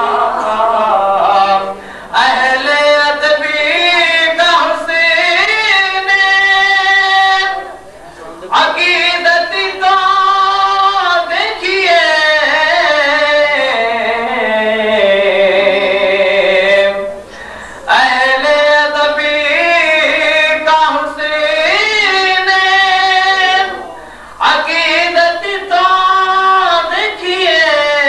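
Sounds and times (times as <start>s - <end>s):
man singing unaccompanied: 0.0s - 17.2s, 17.8s - 28.0s.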